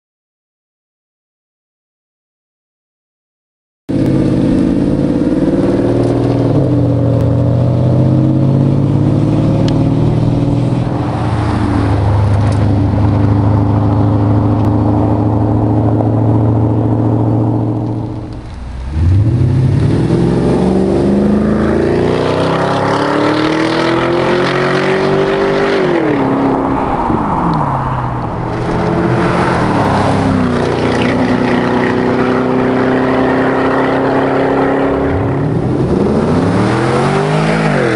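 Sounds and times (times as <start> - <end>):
car engine idling and revving: 3.9 - 37.9.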